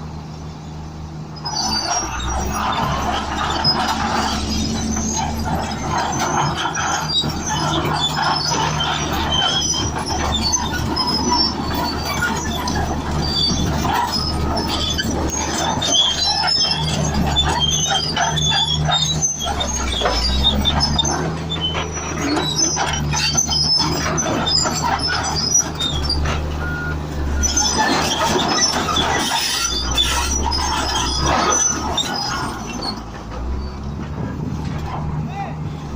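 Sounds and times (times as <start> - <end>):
bulldozer diesel engine running: 0.0 - 35.9
crawler tracks squealing and clanking: 0.8 - 35.9.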